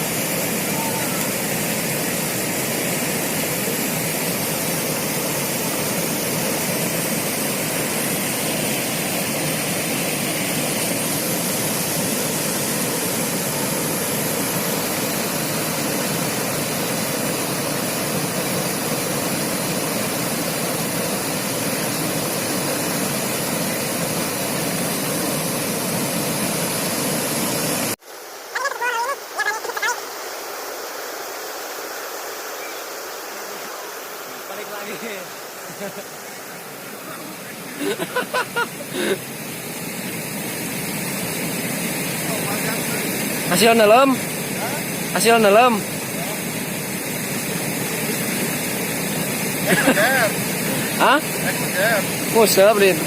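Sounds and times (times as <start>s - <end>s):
river water rushing over rocks: 0.0s - 53.0s.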